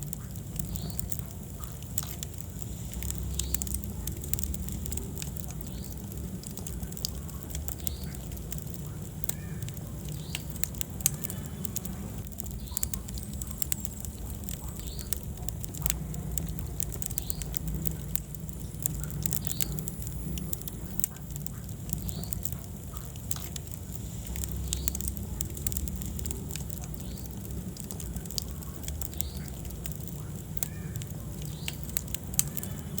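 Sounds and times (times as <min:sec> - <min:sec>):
fire pops: 0:00.0 - 0:33.0
low rumble of flames: 0:00.0 - 0:33.0
wood fire crackling: 0:00.0 - 0:33.0.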